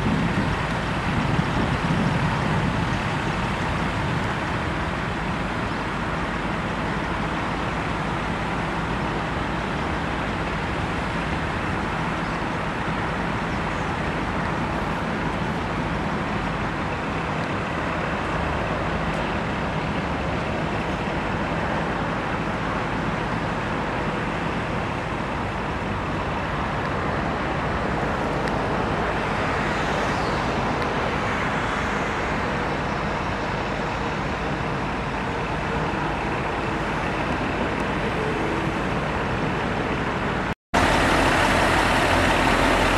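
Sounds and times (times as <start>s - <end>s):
low engine drone: 0.0s - 42.9s
traffic hum: 0.0s - 42.9s.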